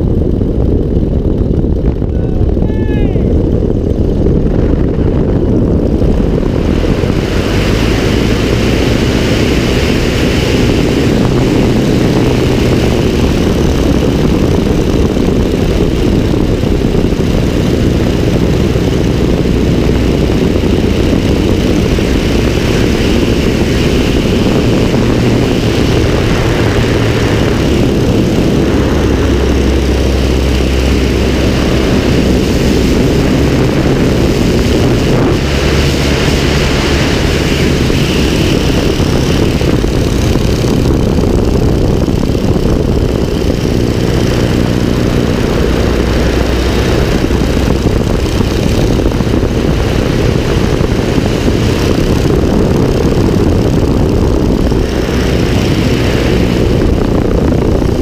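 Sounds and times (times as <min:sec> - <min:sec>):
propeller engine running: 0:00.0 - 0:58.0
wind rush on microphone: 0:00.0 - 0:58.0.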